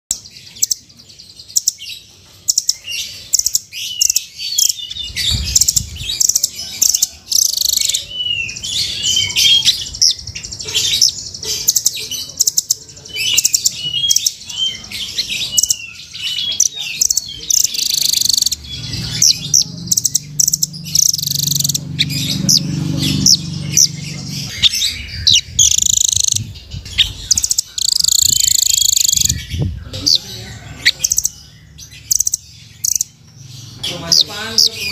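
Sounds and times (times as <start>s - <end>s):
bird chirps and trills: 0.1s - 34.9s.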